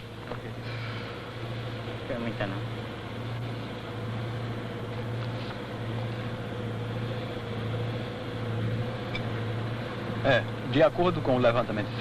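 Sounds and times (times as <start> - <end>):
mechanical drone with low hum: 0.0 - 12.0.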